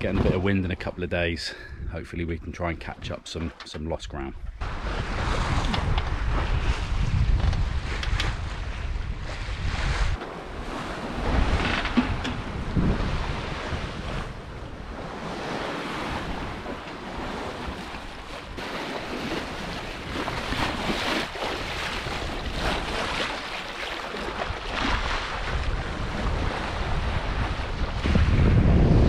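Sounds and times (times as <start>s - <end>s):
wind buffeting microphone: 4.4s - 23.4s, 24.3s - 29.0s
sea water washing around yacht: 4.6s - 29.0s.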